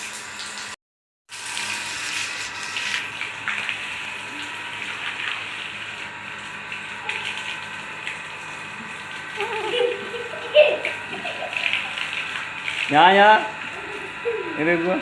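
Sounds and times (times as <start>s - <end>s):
running water gushing: 0.0s - 15.0s.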